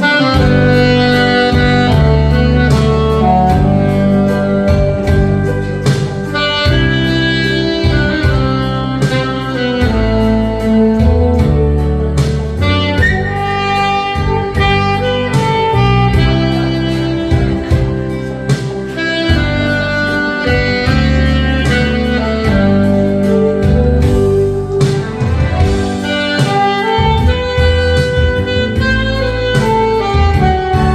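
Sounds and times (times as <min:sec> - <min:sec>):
alto saxophone melody: 0:00.0 - 0:30.9
bass: 0:00.0 - 0:30.9
drum beats: 0:00.0 - 0:30.9.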